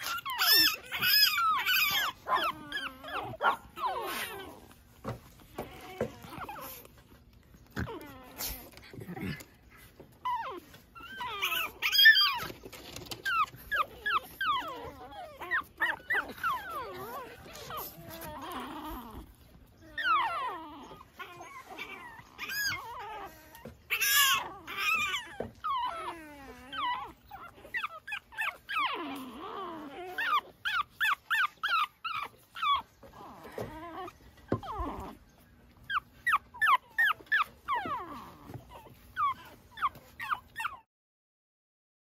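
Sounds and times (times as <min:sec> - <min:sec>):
puppies whimpering and yipping: 0:00.0 - 0:40.9.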